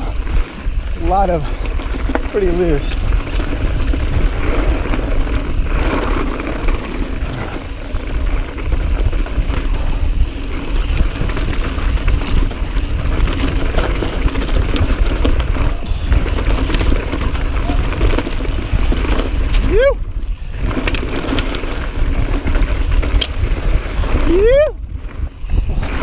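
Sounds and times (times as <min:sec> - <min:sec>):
bike clicks and rattles: 0:00.0 - 0:26.0
tyres rolling on loose dirt: 0:00.0 - 0:26.0
wind buffeting microphone: 0:00.0 - 0:26.0.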